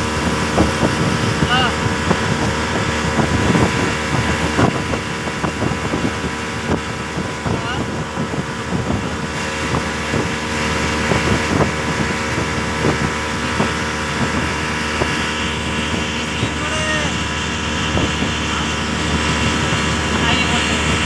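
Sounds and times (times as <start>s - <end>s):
speedboat engine running: 0.0s - 21.0s
wind on microphone: 0.0s - 21.0s.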